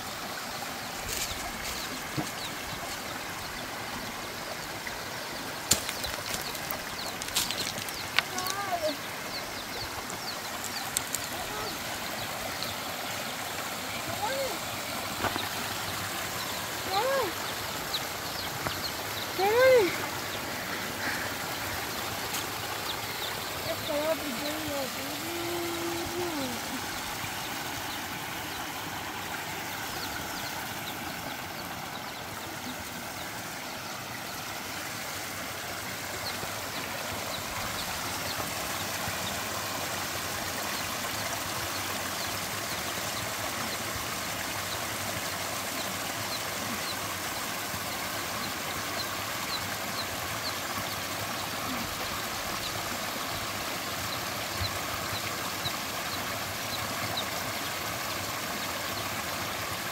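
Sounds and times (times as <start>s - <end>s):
water trickling over rocks: 0.0s - 59.9s.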